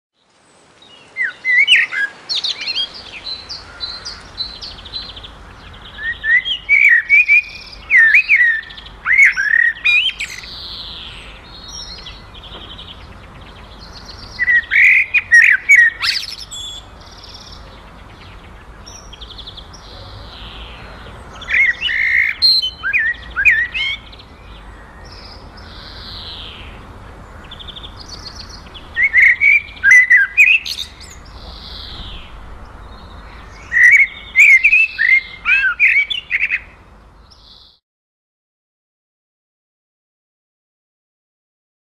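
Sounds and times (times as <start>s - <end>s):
blackbird singing: 0.8s - 37.8s.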